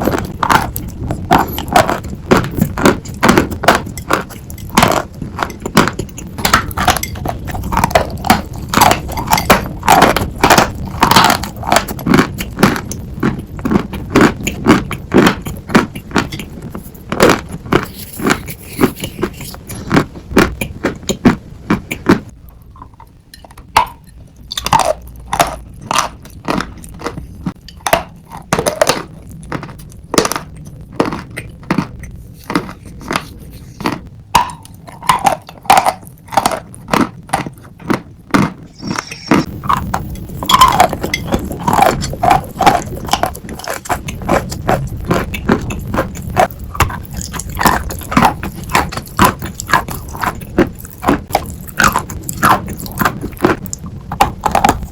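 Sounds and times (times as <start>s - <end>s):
chalk being chewed: 0.0s - 22.3s, 23.8s - 54.9s.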